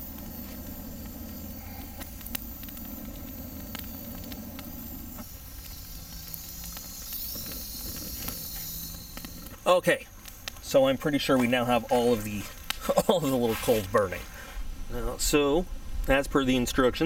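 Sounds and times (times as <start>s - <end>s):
charcoal fire hissing: 0.0s - 17.0s
faint fire crackles: 0.0s - 17.0s.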